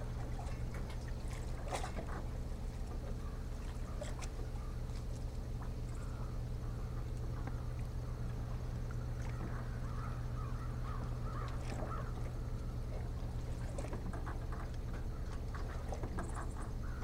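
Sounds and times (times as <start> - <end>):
steady low hum: 0.0 - 17.0
birds calling: 1.5 - 17.0.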